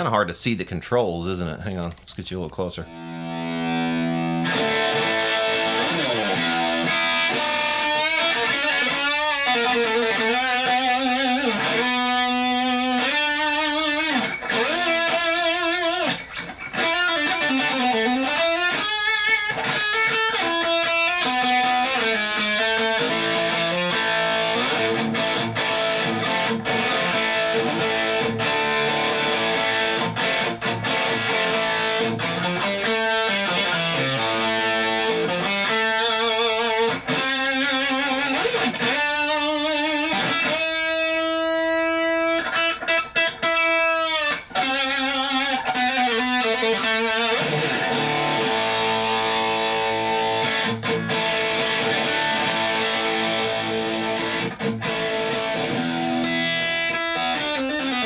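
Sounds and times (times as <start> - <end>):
distorted electric guitar: 2.8 - 58.0.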